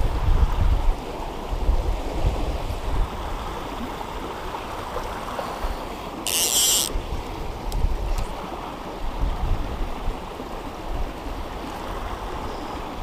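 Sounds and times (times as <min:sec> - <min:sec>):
wind rumble on microphone: 0:00.0 - 0:05.8, 0:06.9 - 0:13.0.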